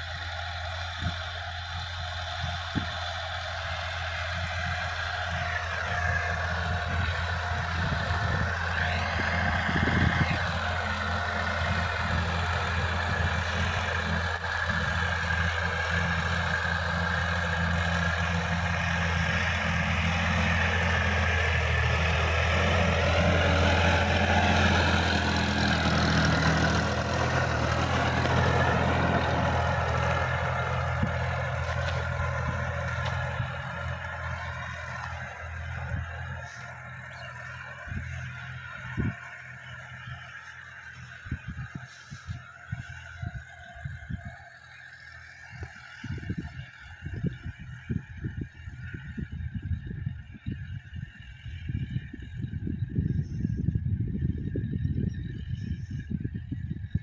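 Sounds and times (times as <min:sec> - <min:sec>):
tiller mechanical whir: 0:00.0 - 0:48.4
tractor engine drone: 0:00.0 - 0:57.0.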